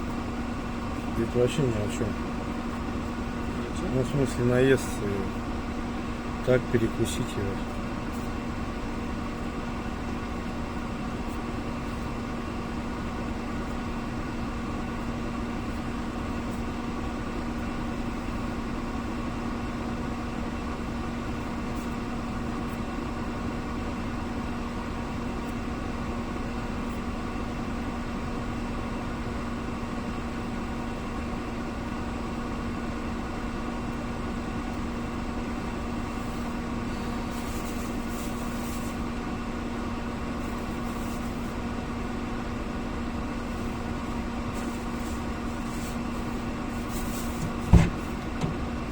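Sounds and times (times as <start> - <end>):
steady machine hum: 0.0 - 48.9.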